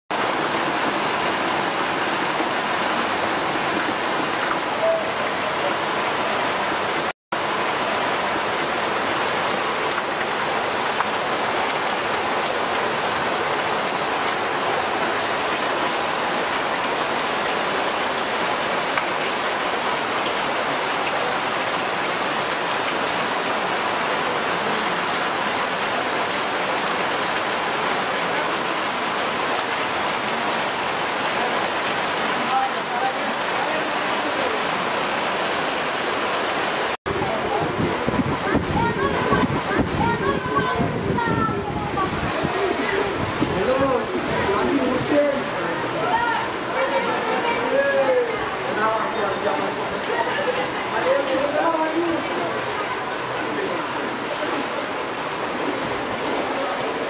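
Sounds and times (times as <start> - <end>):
rain falling on water: 0.1 - 57.0.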